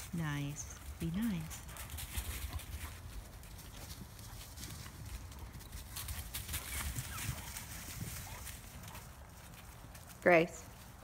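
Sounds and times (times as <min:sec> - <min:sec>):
paws crunching dry leaves: 0:00.8 - 0:11.0.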